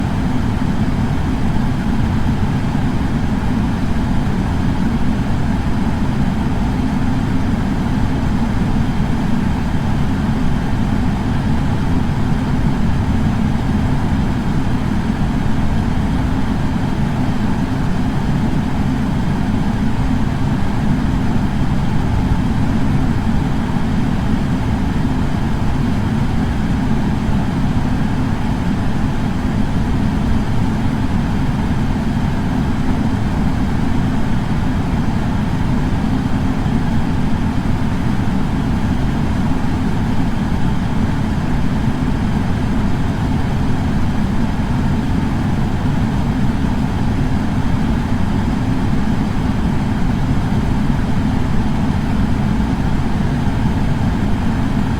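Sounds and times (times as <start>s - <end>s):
air purifier fan running: 0.0s - 54.9s.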